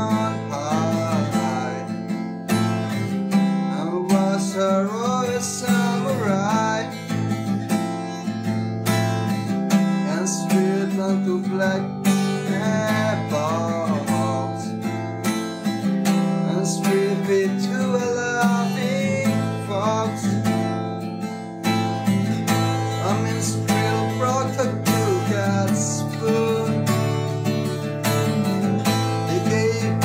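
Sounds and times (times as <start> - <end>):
acoustic guitar chords: 0.0 - 30.0
man singing: 0.0 - 30.0.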